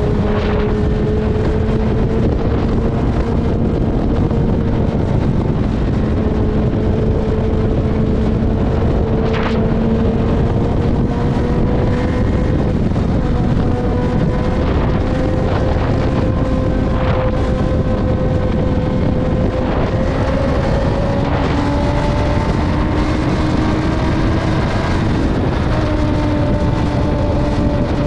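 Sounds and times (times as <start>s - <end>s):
heavy wind rush: 0.0s - 28.0s
motorcycle engine cruising: 0.0s - 28.0s.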